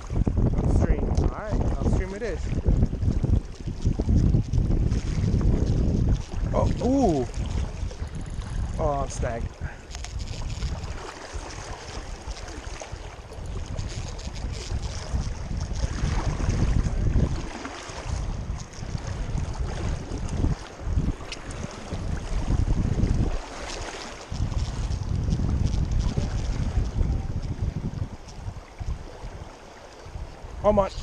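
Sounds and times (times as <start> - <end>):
shallow river current rushing: 0.0 - 31.0
wind buffeting microphone: 0.0 - 31.0.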